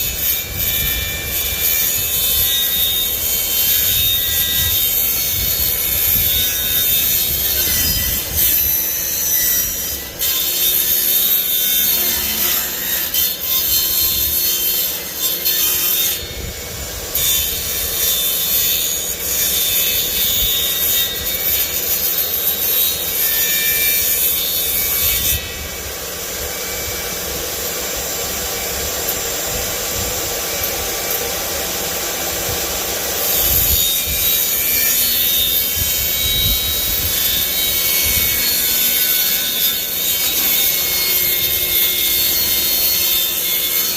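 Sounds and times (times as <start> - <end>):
power saw cutting wood: 0.0 - 43.9.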